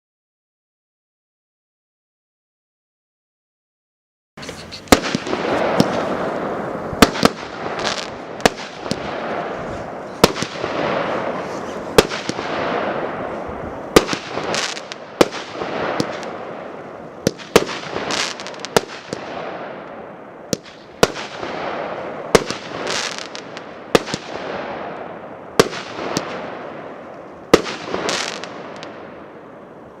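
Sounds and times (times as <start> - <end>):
firework crackling hiss: 4.4 - 29.5
firework bangs: 4.4 - 29.8.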